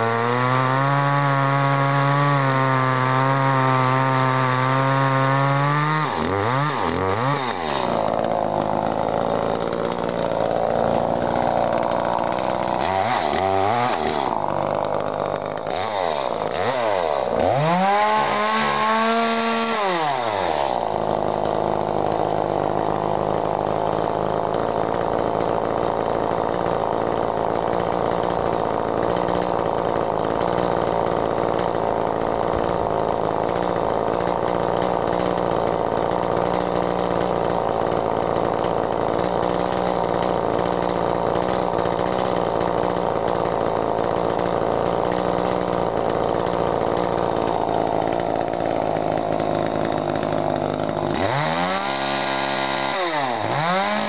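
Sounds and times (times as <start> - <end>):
chainsaw cutting log: 0.0 - 54.0
chainsaw engine revving: 0.0 - 54.0.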